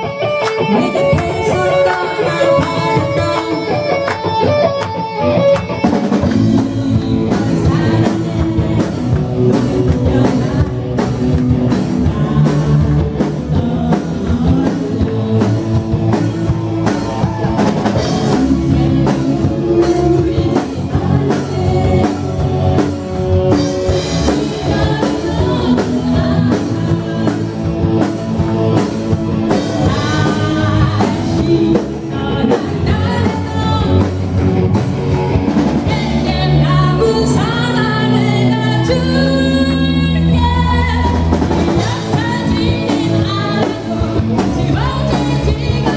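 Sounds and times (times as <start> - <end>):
electric bass: 0.0 - 45.9
electric guitar: 0.0 - 45.9
woman singing: 0.7 - 4.2, 6.0 - 16.3, 17.2 - 27.8, 29.5 - 34.4, 35.7 - 45.9
drum kit with cymbals: 5.6 - 39.3, 40.0 - 45.9.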